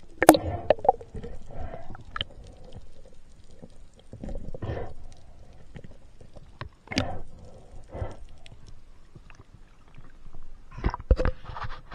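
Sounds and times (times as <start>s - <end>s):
muffled underwater water movement: 0.0s - 11.9s.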